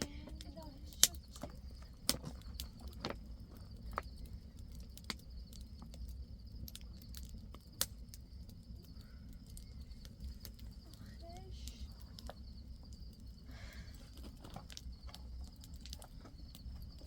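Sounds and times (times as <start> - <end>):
night insects chirring: 0.0 - 17.0.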